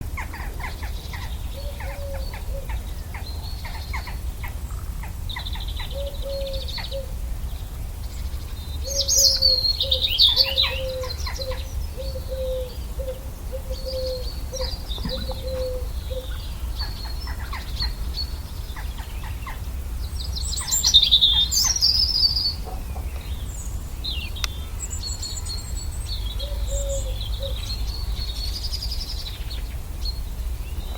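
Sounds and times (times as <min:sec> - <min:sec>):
birds singing and chirping: 0:00.0 - 0:30.9
steady low rumble: 0:00.0 - 0:30.9.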